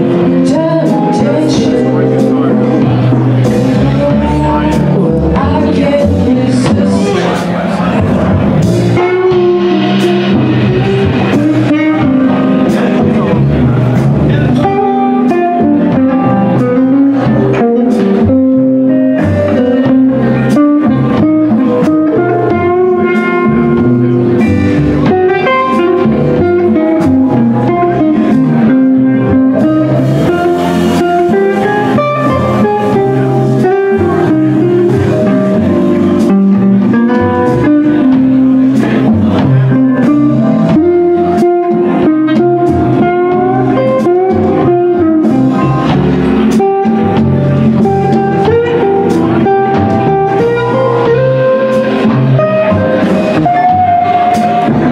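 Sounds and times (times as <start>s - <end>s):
electric guitar lead: 0.0s - 54.9s
live blues band: 0.0s - 54.9s
walking upright bass: 0.0s - 54.9s.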